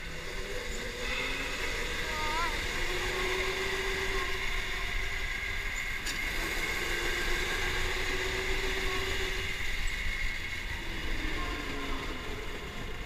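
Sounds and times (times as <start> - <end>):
electric motor whining: 0.0 - 13.0
kart rumbling on concrete: 0.0 - 13.0.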